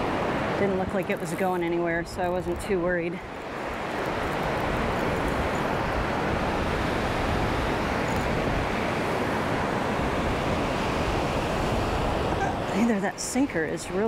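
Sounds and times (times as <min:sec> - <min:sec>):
surf washing on beach: 0:00.0 - 0:14.0
wind rumbling on microphone: 0:00.0 - 0:14.0.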